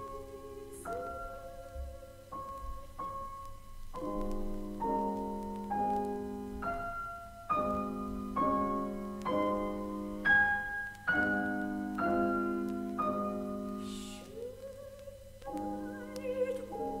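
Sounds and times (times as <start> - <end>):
piano chords ringing: 0.0 - 14.6, 15.2 - 17.0.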